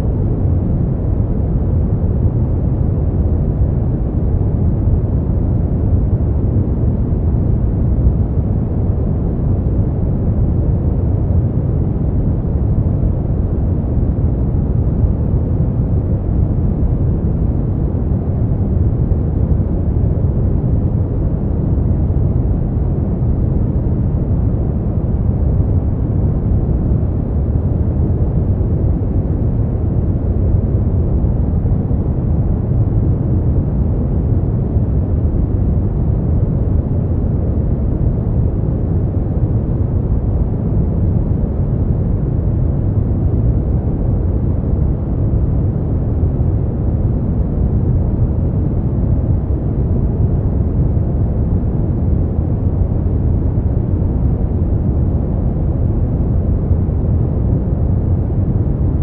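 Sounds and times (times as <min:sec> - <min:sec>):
deep low continuous noise: 0:00.0 - 0:59.0.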